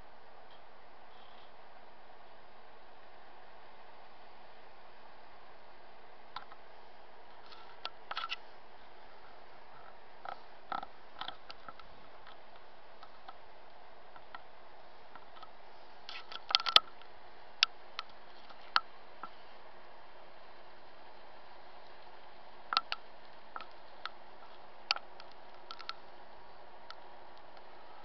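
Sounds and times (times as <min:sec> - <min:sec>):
faint hum: 0:00.0 - 0:28.0
steady hiss: 0:00.0 - 0:28.0.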